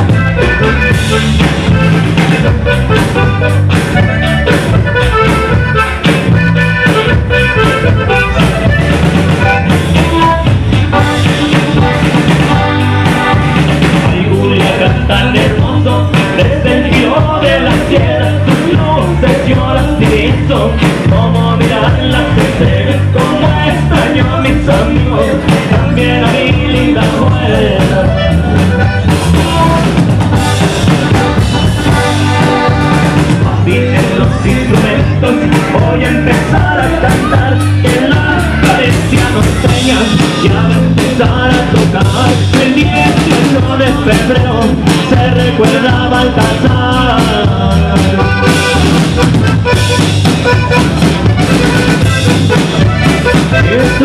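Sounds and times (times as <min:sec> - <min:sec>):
band playing accordion bass and drums: 0:00.0 - 0:54.0.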